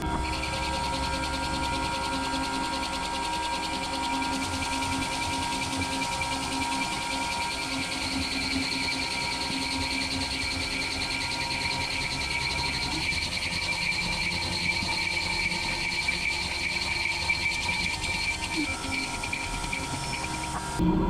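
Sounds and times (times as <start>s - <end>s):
low machine hum: 0.0s - 21.0s
machine high-pitched whine: 0.0s - 21.0s.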